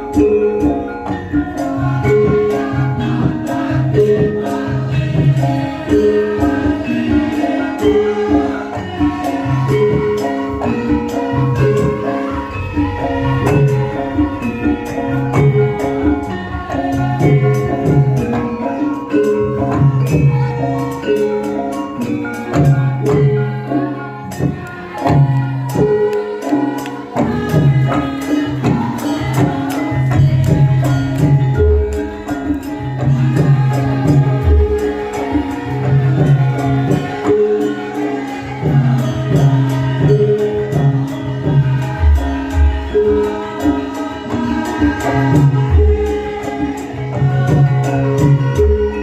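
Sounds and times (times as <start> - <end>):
jingling percussion: 0.0 - 49.0
pitched percussion notes: 0.0 - 49.0.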